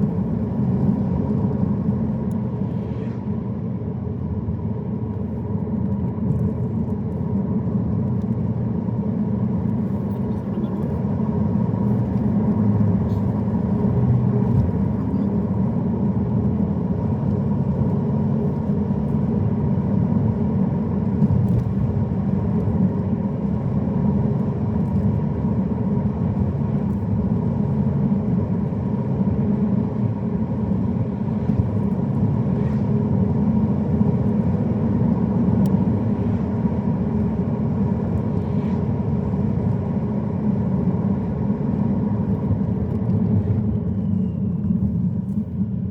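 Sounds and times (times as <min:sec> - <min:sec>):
car engine and tyres rumbling: 0:00.0 - 0:45.9.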